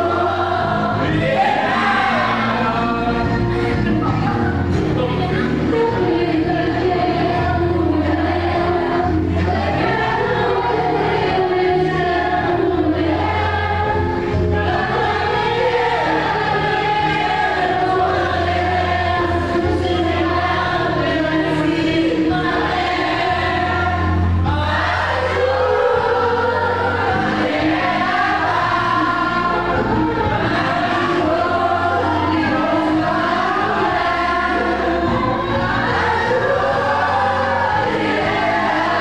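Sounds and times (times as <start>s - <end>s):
group singing in chorus: 0.0s - 39.0s.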